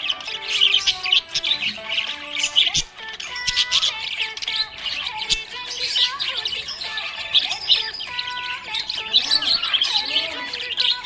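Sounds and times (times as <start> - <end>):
budgerigars chirping and warbling: 0.0 - 11.0.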